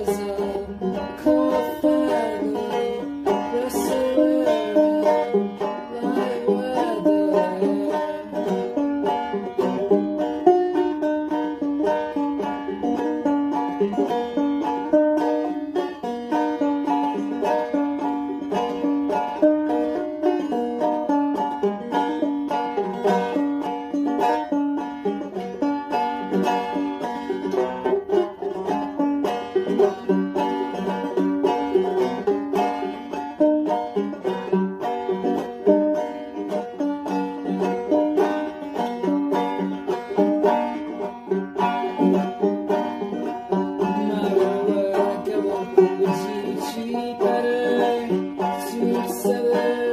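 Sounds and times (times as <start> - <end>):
banjo picking: 0.0 - 49.9.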